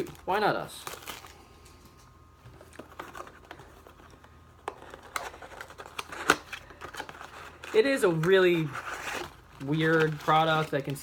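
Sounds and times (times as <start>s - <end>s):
cards rustling and clicking: 0.0s - 11.0s.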